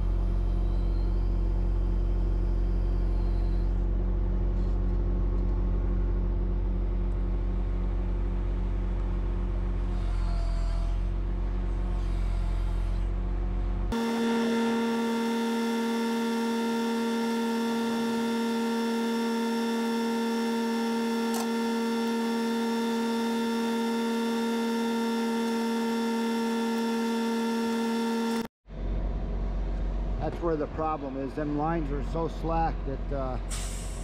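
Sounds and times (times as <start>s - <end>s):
mechanical whine: 0.0s - 29.3s
truck engine rumble: 0.0s - 34.0s.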